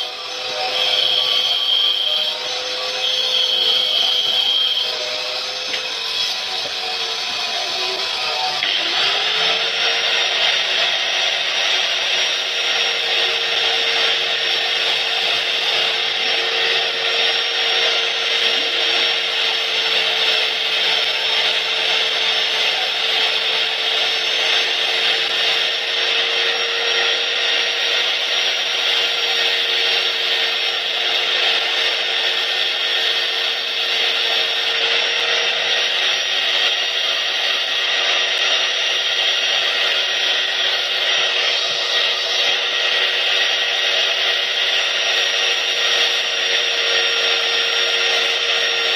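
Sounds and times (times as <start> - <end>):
angle grinder sanding: 0.0 - 48.9.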